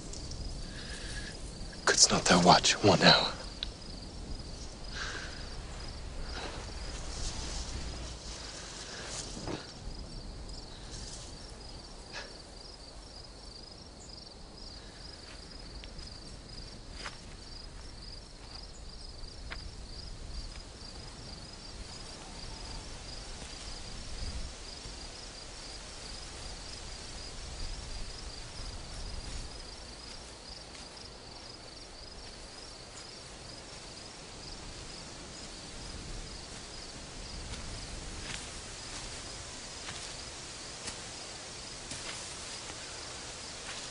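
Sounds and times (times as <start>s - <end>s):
crickets chirping: 0.0s - 43.9s
low steady background: 0.0s - 43.9s.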